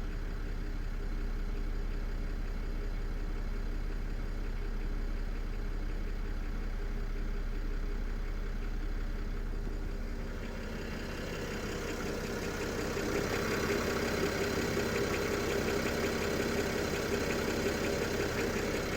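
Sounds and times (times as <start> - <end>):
engine idling with clatter: 0.0 - 18.9.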